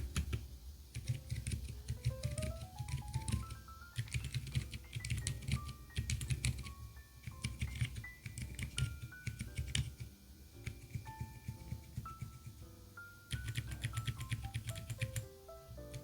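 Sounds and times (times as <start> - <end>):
mechanical keyboard typing: 0.0 - 12.6, 13.3 - 16.0.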